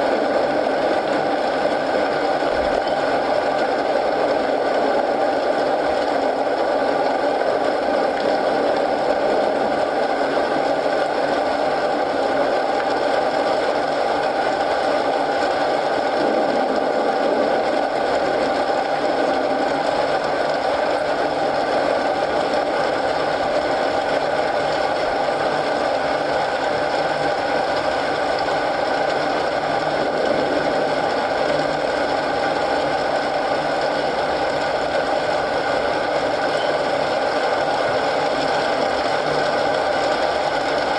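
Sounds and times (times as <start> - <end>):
rain: 0.0 - 40.9.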